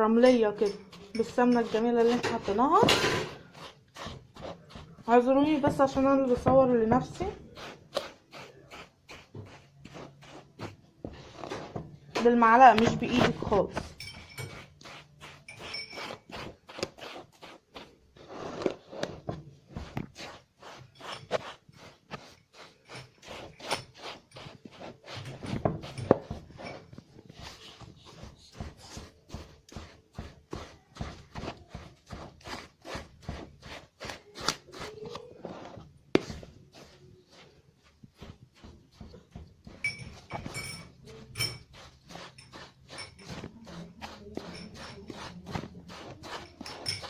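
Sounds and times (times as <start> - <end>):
spoon scraping a mixing bowl: 0.0 - 47.0.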